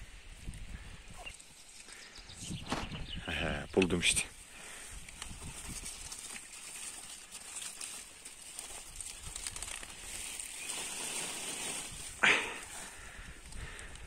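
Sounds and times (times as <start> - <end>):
leaves rustling and crinkling: 0.0 - 14.0.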